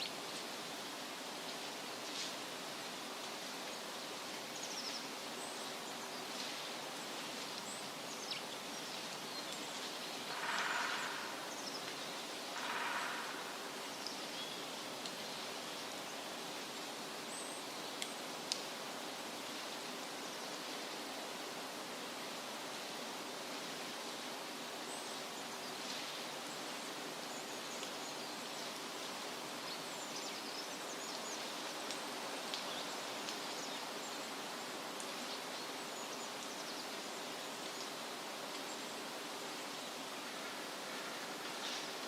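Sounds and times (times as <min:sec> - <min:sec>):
wind rustling leafy trees: 0:00.0 - 0:42.0.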